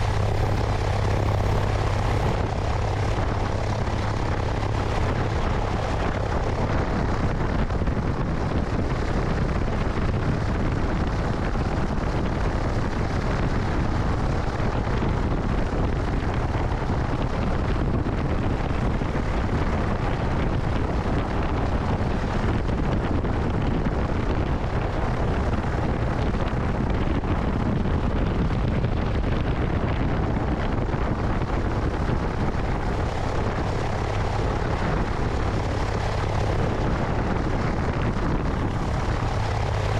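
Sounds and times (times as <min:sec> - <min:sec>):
airplane engine and propeller: 0:00.0 - 0:39.9
wind rushing over microphone: 0:00.0 - 0:39.9.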